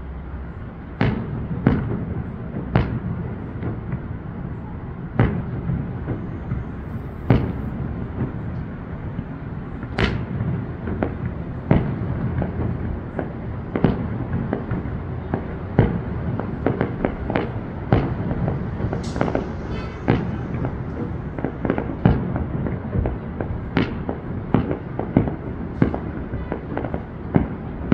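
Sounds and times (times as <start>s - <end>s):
fireworks bangs: 1.0s - 27.9s.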